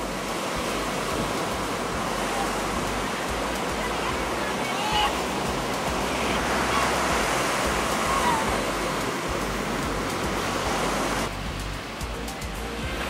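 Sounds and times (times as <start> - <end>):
faint voices: 0.0 - 13.0
waves breaking on beach: 0.0 - 13.0.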